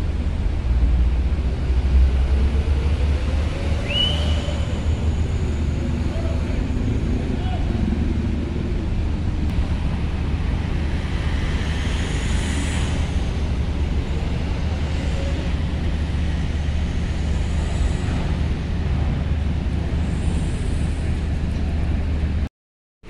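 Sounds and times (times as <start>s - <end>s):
low engine rumble: 0.0s - 22.5s.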